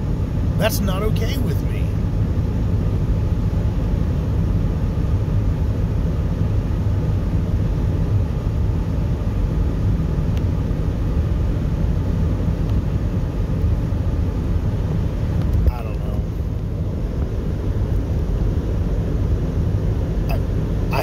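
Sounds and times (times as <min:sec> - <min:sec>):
car cabin road noise: 0:00.0 - 0:21.0.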